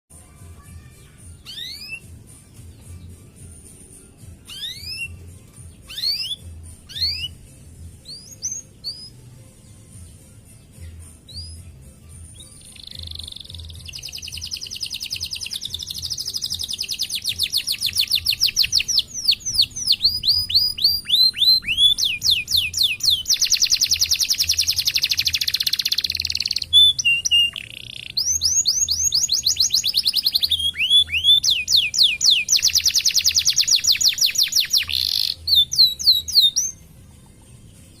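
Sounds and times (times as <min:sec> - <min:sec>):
canary singing: 0:00.1 - 0:38.0.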